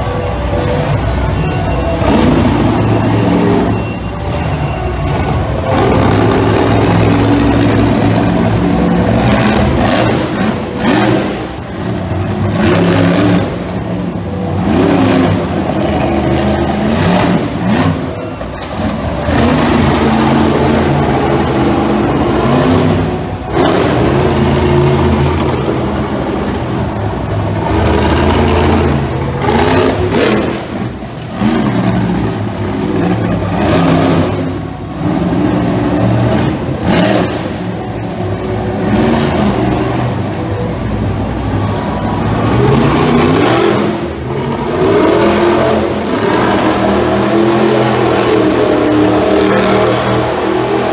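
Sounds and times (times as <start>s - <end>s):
monster truck engine revving: 0.0s - 50.9s.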